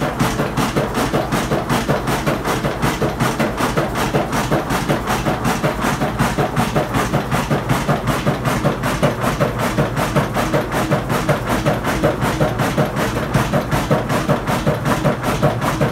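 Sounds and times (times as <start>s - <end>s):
stationary diesel engine running: 0.0s - 15.9s.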